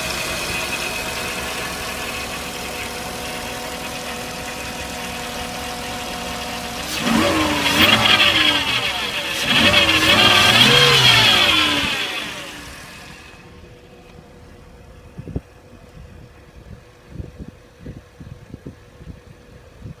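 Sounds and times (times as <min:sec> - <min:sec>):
car engine idling after a rev: 0:00.0 - 0:19.8.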